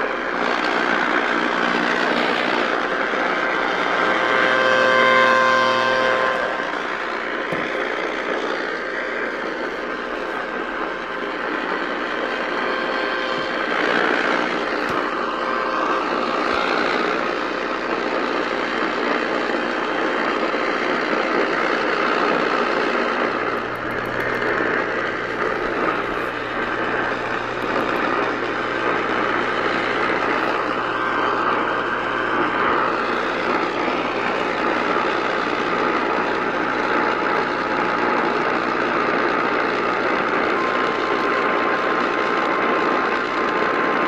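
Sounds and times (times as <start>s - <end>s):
low hum: 0.0s - 21.1s, 21.8s - 37.8s
radio static hiss: 0.0s - 44.0s.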